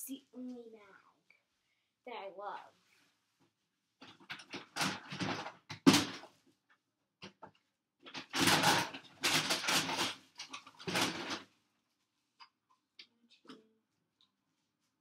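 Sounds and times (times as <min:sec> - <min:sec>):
objects rustling and clattering: 0:02.7 - 0:15.0.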